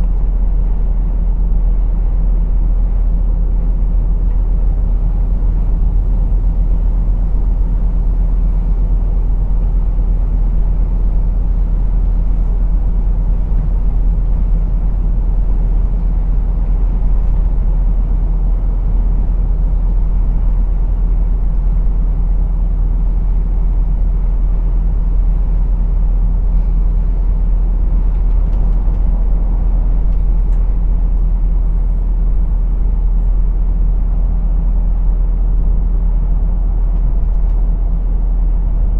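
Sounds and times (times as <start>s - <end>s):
diesel engine drone: 0.0s - 38.9s
road noise: 0.0s - 38.9s.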